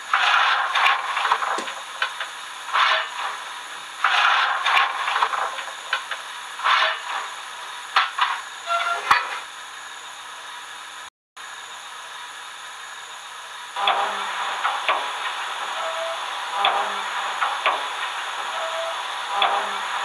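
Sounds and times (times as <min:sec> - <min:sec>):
steam hissing in bursts: 0:00.0 - 0:20.0.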